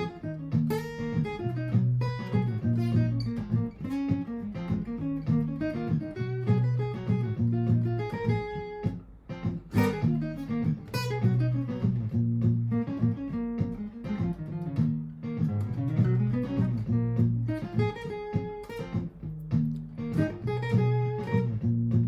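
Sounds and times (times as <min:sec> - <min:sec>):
acoustic guitar improvising: 0:00.0 - 0:22.0
looped guitar parts: 0:00.0 - 0:22.0.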